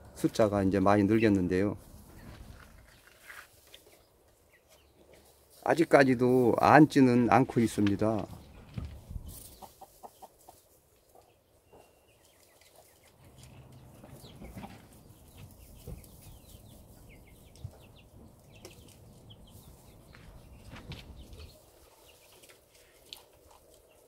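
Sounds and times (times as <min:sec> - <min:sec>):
chickens clucking: 0:03.6 - 0:24.0.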